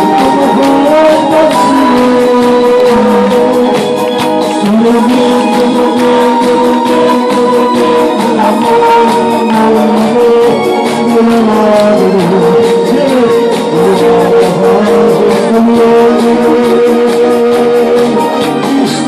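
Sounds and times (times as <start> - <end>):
electronic keyboard chords: 0.0 - 19.0
man singing into a microphone: 0.0 - 19.0
programmed drum beat: 0.0 - 19.0.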